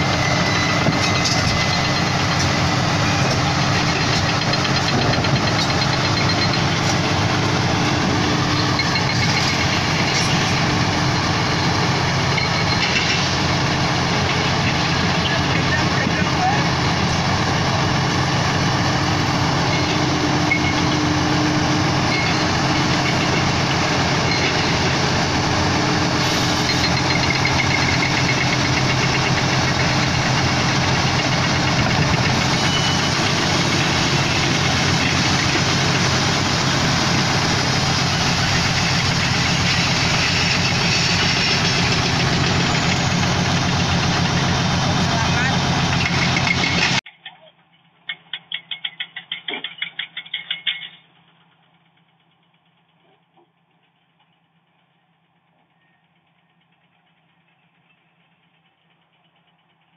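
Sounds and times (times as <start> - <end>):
diesel engines idling: 0.0 - 47.0, 47.6 - 59.9.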